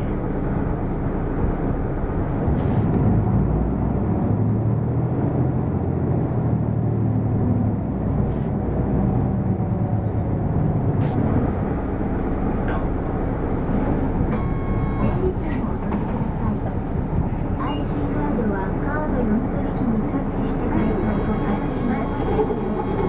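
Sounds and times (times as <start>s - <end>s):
bus diesel engine drone: 0.0s - 23.0s
road noise: 0.0s - 23.0s.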